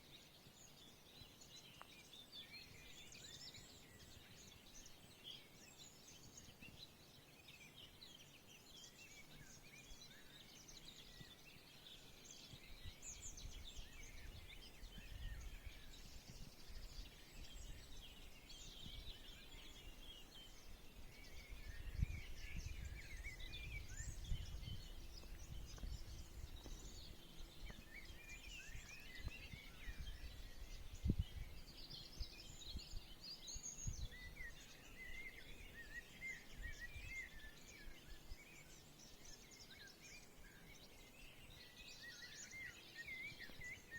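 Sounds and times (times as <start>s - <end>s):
songbirds chirping: 0.0s - 43.9s.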